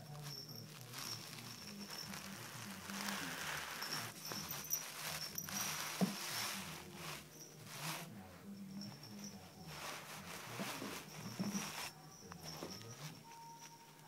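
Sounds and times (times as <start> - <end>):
kittens scampering on carpet: 0.0 - 14.0.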